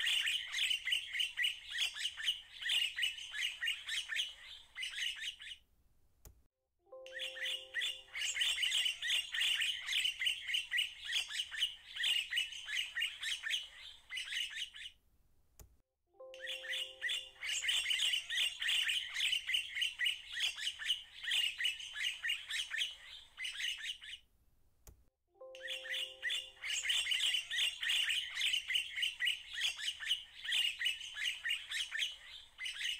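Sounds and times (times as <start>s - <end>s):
birds chirping: 0.0s - 5.6s, 6.9s - 15.0s, 16.2s - 24.2s, 25.4s - 32.9s.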